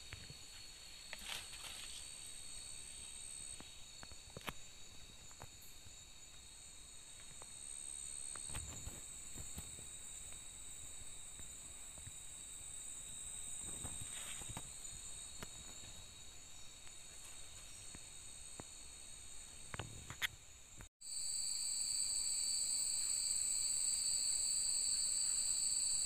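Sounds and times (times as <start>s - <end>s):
night insects trilling: 0.0s - 26.0s.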